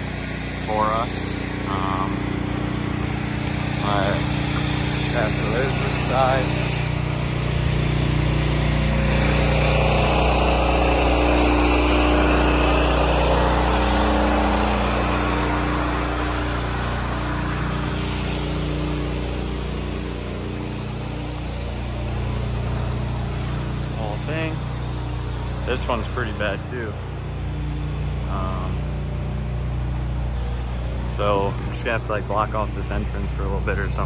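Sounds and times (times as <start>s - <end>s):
water spray hissing: 0.0s - 30.6s
pressure washer engine running: 0.0s - 34.0s.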